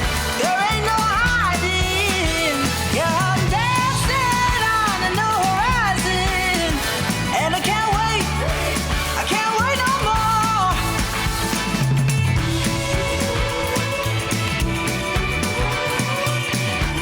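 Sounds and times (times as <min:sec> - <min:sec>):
pop song with singing: 0:00.0 - 0:17.0.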